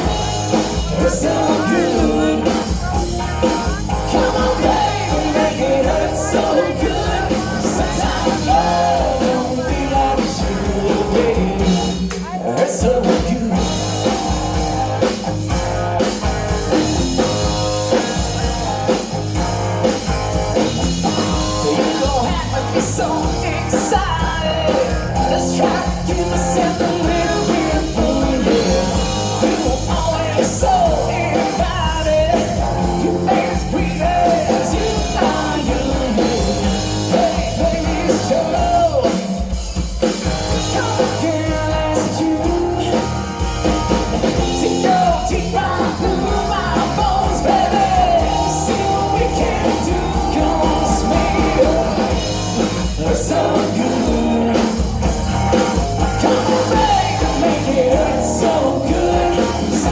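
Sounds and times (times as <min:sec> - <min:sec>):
person singing: 0:00.0 - 0:15.1, 0:20.6 - 0:43.3, 0:44.2 - 0:59.9
live rock band playing: 0:00.0 - 0:59.9.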